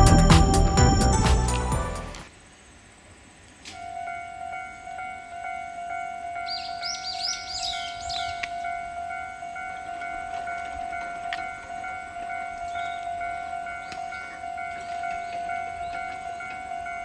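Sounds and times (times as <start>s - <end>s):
level-crossing electronic bell: 0.0s - 2.3s, 3.8s - 17.0s.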